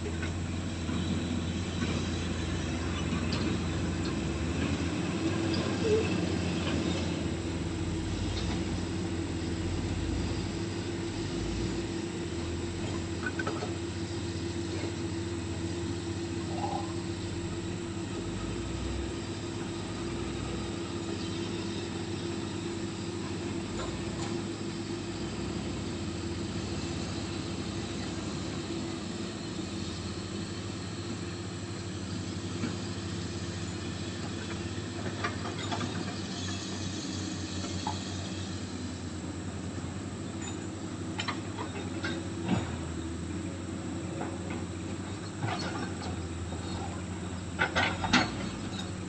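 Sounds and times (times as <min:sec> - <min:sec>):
excavator engine running: 0:00.0 - 0:49.0.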